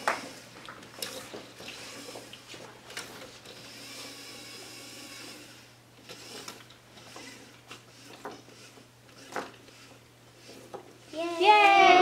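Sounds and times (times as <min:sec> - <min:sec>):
robot electric motors whirring: 0:01.0 - 0:12.0.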